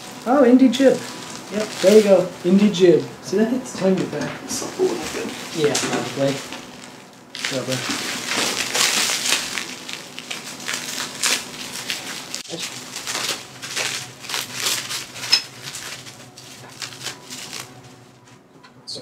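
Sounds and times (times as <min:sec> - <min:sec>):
crinkling handling noise: 0:00.0 - 0:03.2, 0:03.8 - 0:18.6.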